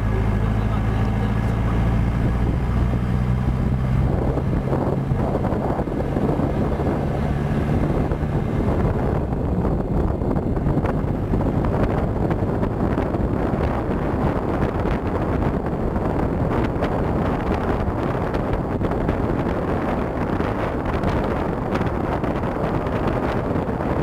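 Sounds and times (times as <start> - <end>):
car engine driving on sand: 0.0 - 24.0
wind buffeting microphone: 0.0 - 24.0.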